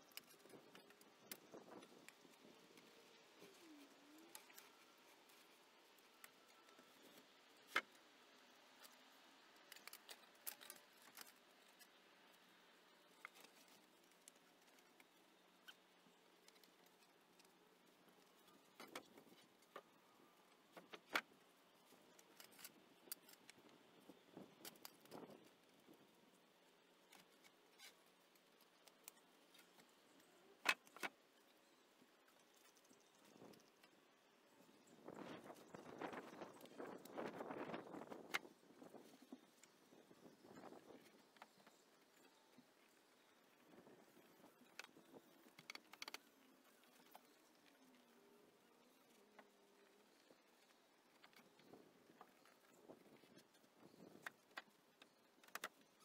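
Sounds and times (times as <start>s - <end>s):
faint clicks and ticks: 0.0s - 56.0s.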